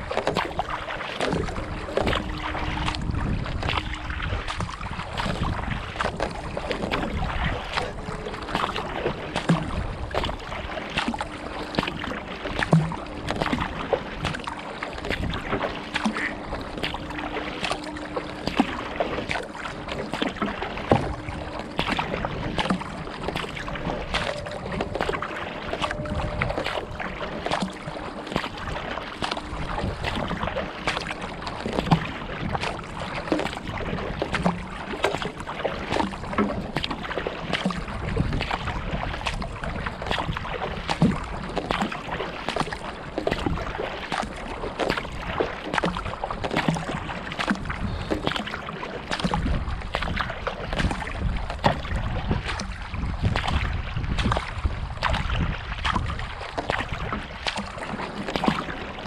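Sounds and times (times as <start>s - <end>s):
water drips and splashes: 0.0s - 59.0s
water washing along kayak hull: 0.0s - 59.0s.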